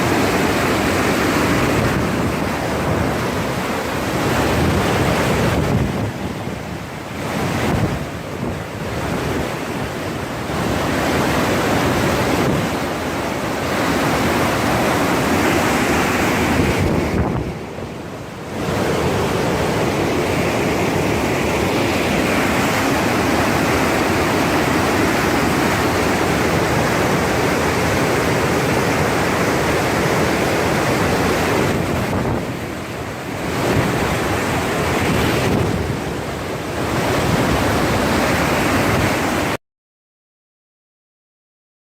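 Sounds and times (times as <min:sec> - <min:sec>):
waterfall rushing: 0:00.0 - 0:39.6.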